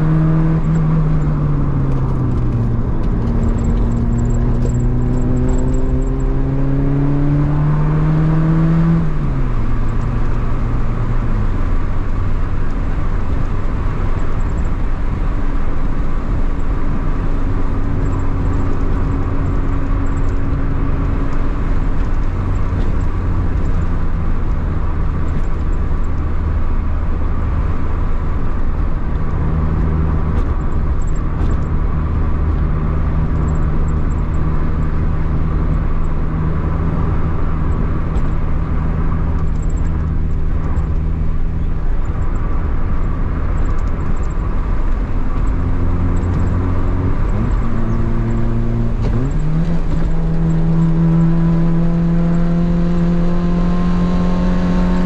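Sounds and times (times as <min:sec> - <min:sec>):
road and wind noise: 0:00.0 - 0:55.0
vehicle engine running: 0:00.0 - 0:55.0.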